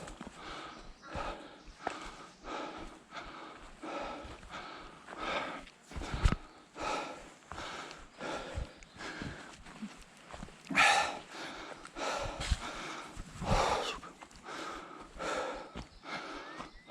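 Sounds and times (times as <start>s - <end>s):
person breathing hard: 0.0s - 9.9s, 10.7s - 16.9s.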